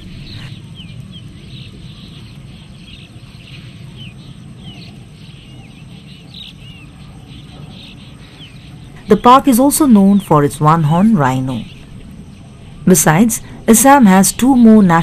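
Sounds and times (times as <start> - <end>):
low outdoor rumble: 0.0 - 15.0
wild birds chirping: 0.0 - 15.0.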